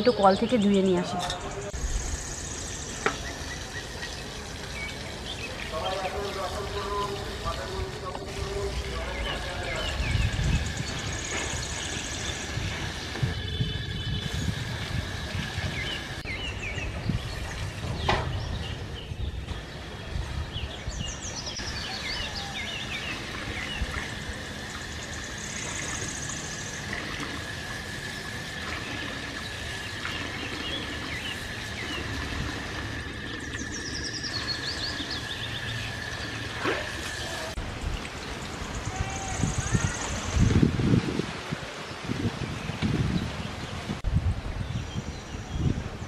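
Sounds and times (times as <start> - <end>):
birds chirping: 0.0 - 40.7.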